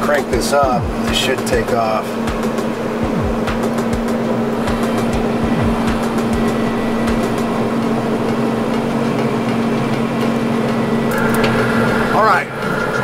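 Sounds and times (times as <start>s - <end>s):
grill fan and motor hum: 0.0s - 13.0s.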